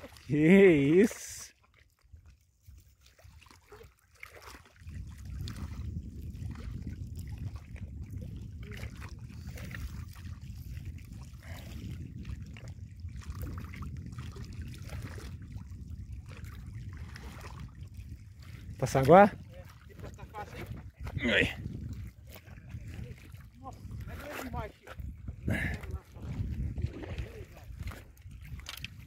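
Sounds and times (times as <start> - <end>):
wind buffeting microphone: 4.8 - 29.0.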